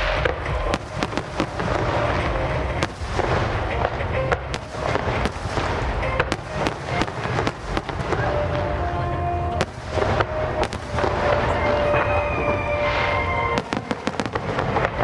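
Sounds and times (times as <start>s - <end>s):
fireworks bangs and crackles: 0.0s - 15.0s
low rumble of distant bursts: 0.0s - 15.0s.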